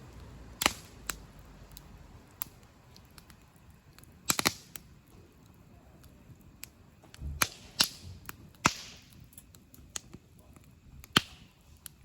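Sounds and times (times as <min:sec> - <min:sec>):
campfire crackling: 0:00.0 - 0:12.0
sharp pops from fire: 0:00.0 - 0:12.0.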